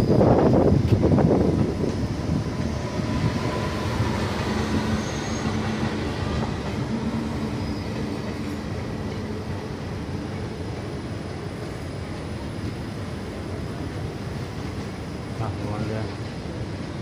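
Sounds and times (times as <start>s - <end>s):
rail vehicle rumbling on rails: 0.0s - 17.0s.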